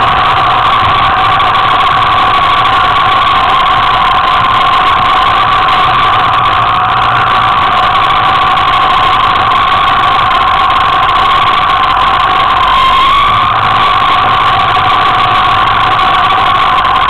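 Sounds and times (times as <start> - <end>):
motor scooter engine running: 0.0 - 17.0.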